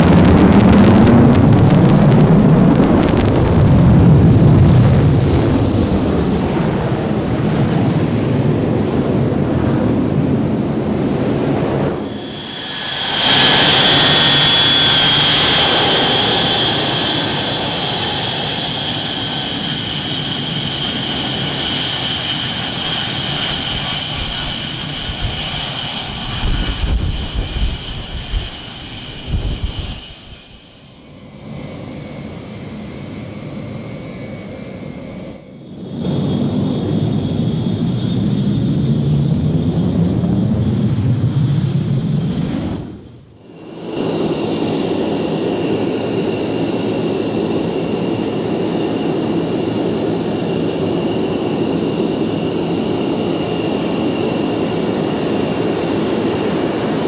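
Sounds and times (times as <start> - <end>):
jet engines whining and roaring: 0.0 - 57.0.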